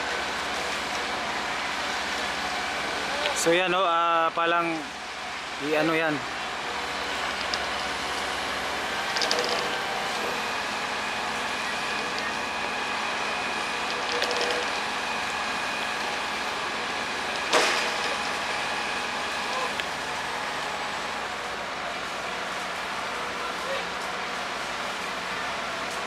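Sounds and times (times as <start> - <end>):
crane engine running: 0.0 - 26.0.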